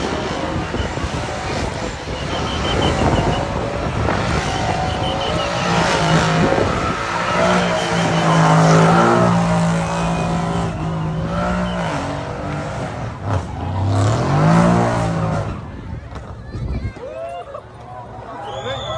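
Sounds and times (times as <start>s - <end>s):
car engines revving: 0.0s - 16.7s.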